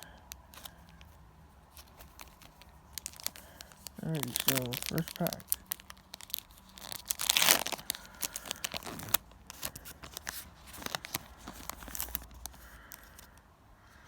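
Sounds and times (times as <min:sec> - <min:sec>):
foil crinkling and crackling: 0:00.0 - 0:13.3
foil wrapper tearing: 0:00.0 - 0:13.3.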